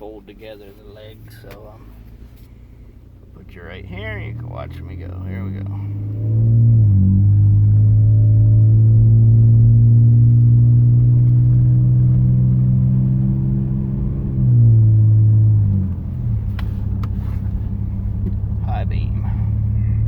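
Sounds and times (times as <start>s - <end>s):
exhaust droning under throttle: 1.8s - 20.0s.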